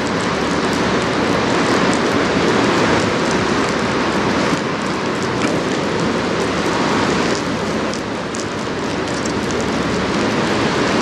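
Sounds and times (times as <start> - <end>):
rushing hiss of rain and water: 0.0 - 11.0.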